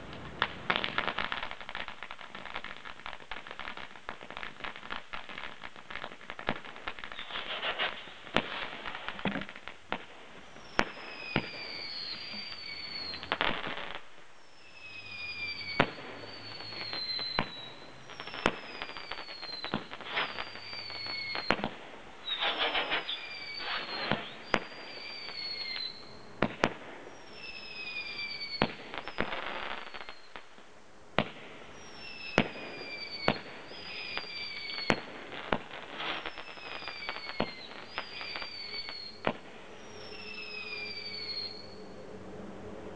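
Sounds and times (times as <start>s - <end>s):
firework bangs: 0.0s - 42.0s
whistling firework shots: 0.0s - 42.1s
firework crackling: 0.0s - 42.9s.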